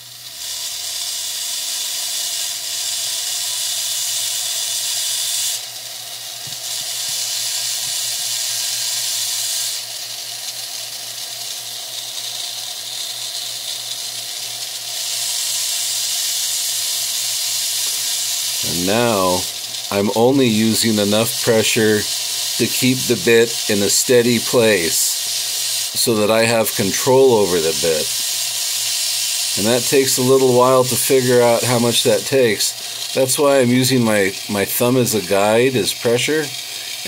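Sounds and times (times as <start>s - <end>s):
rotary tool grinding stone: 0.0s - 37.0s.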